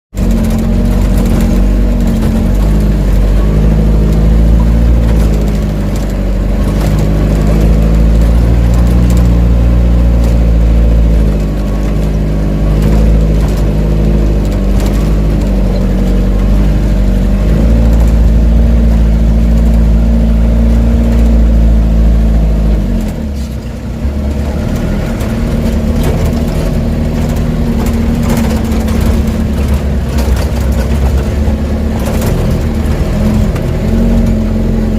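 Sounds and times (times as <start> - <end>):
diesel truck engine droning: 0.1 - 34.9.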